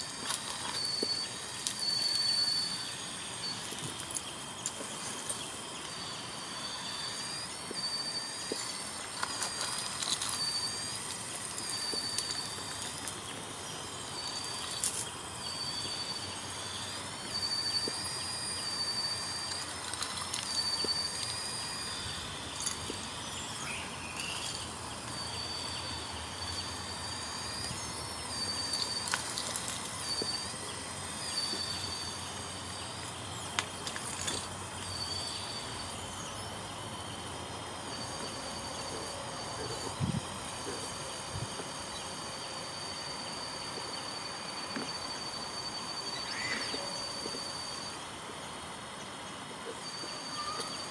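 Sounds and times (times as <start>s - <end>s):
toy excavator motors whining: 0.0s - 50.9s.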